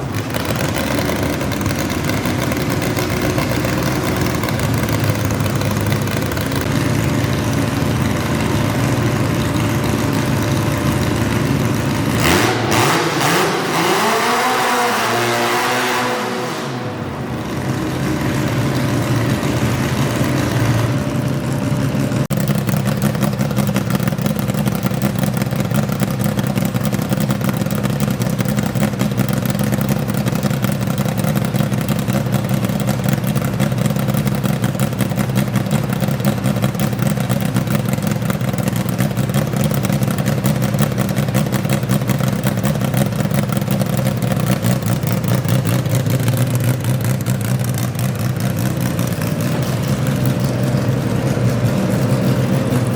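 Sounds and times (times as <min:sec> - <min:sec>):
tractor engine running loud: 0:00.0 - 0:52.9.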